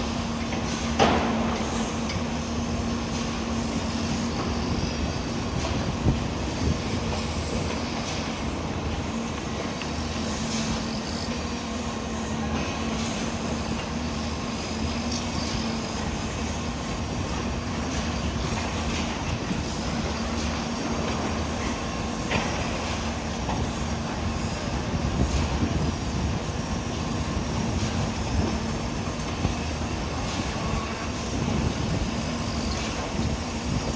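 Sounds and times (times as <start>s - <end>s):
heavy diesel machinery running: 0.0s - 33.9s.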